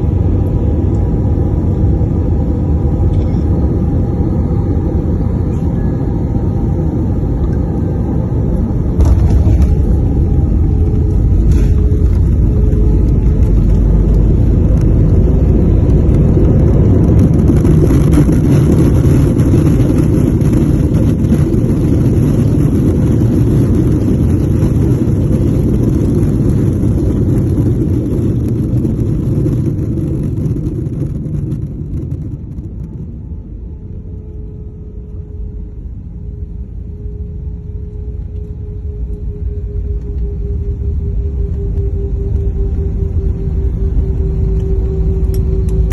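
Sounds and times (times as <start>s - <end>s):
jet airliner landing rumble: 0.0s - 45.9s.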